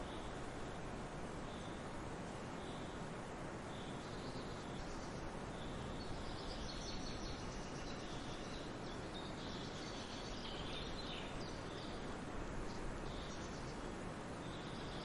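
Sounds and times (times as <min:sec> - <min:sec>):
distant waterfall: 0:00.0 - 0:15.0
songbirds chirping: 0:00.0 - 0:15.0
wind: 0:00.0 - 0:15.0.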